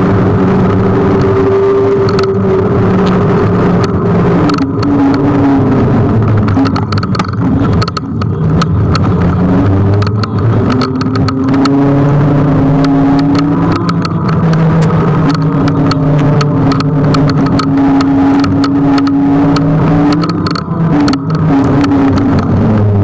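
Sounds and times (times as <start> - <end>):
wind and road noise: 0.0 - 23.0
clicks and rattles: 0.6 - 23.0.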